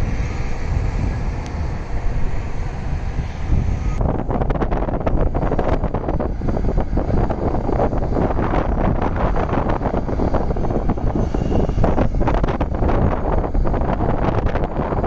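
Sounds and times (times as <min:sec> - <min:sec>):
dump truck diesel engine rumbling: 0:00.0 - 0:15.0
excavator diesel engine: 0:00.0 - 0:15.0.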